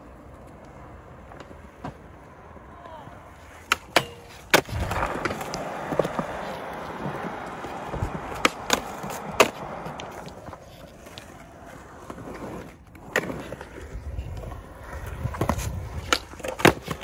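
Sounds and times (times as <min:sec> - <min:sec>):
skateboard clacks: 0:00.0 - 0:17.0
skateboard wheels rolling on concrete: 0:00.0 - 0:17.0.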